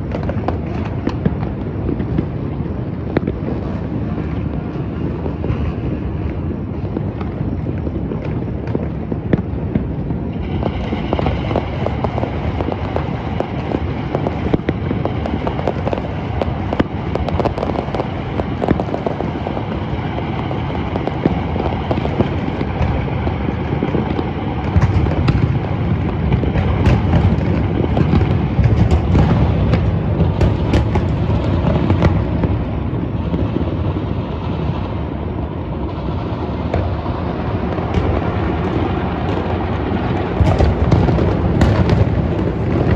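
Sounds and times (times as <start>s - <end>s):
fireworks booming and cracking: 0.0s - 42.9s.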